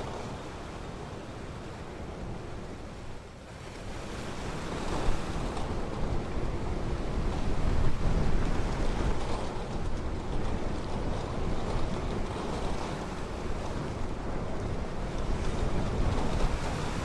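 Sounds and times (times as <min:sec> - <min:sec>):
ocean waves washing onto beach: 0:00.0 - 0:17.0
wind rumble on microphone: 0:00.0 - 0:17.0.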